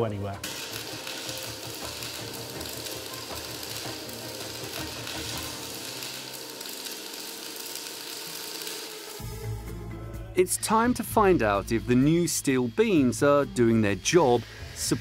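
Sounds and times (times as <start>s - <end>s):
arc welding crackle and hiss: 0.0s - 9.7s, 10.4s - 15.0s.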